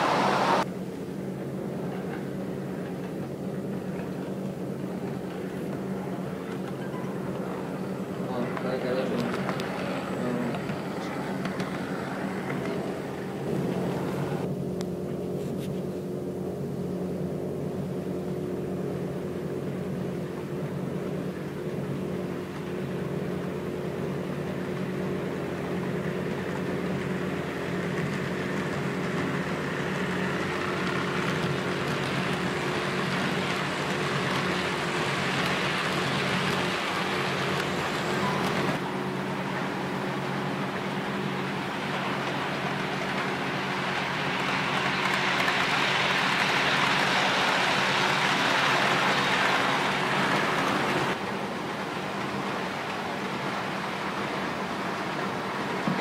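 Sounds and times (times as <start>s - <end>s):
model train running on track: 0.0s - 14.5s, 17.7s - 56.0s
steady low hum: 0.0s - 56.0s.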